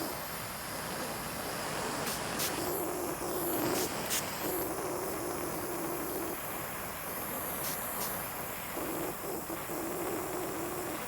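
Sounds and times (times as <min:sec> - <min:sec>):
torch burning with steady hiss: 0:00.0 - 0:11.0.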